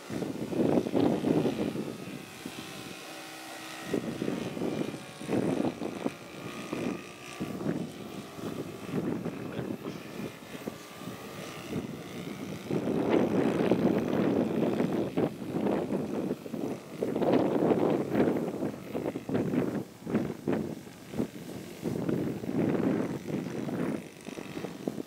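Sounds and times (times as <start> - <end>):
propeller plane engine overhead: 0.0 - 25.0.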